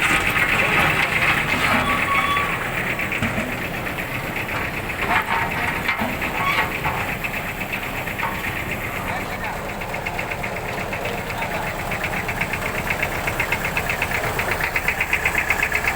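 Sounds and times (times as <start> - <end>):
construction machinery engine knocking: 0.0 - 15.9.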